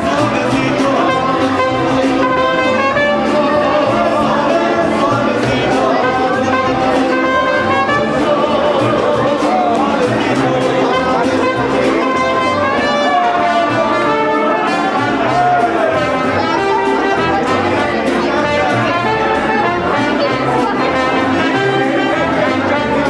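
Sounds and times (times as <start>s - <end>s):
mariachi band playing: 0.0s - 23.0s
trumpets: 0.0s - 23.0s.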